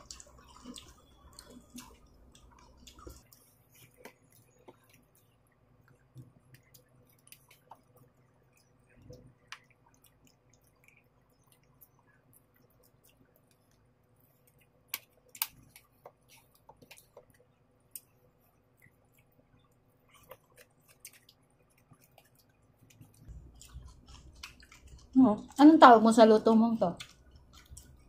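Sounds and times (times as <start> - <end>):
chewing and lip smacks: 0.0 - 26.1, 26.7 - 28.0.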